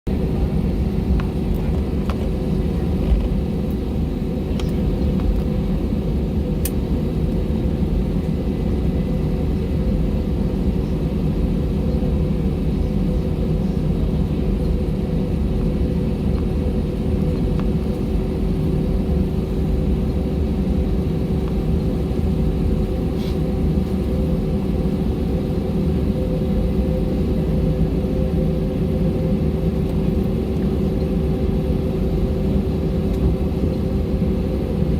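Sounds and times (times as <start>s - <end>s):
aircraft cabin rumble: 0.1s - 34.9s
constant hum: 0.1s - 34.9s.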